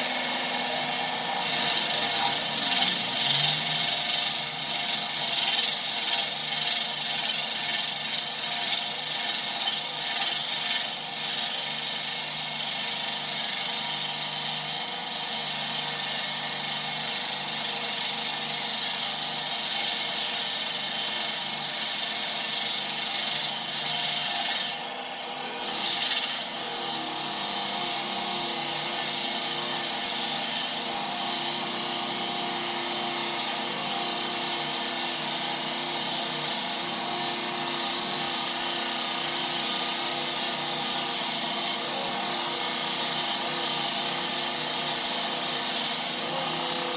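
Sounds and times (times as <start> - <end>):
power tool sanding wood: 0.0 - 46.9.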